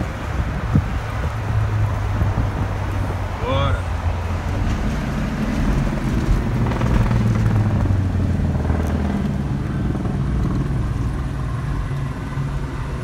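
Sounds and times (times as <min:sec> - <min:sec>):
vehicle cabin engine drone: 0:00.0 - 0:13.0.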